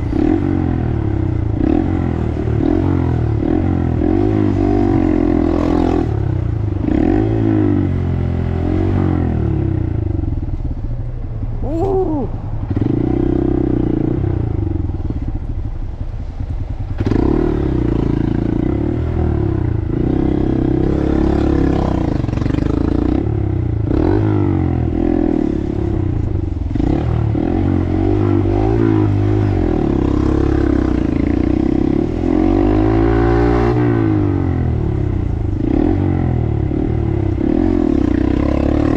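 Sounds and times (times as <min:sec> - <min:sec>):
motorcycle engine revving: 0:00.0 - 0:10.8, 0:11.6 - 0:38.9.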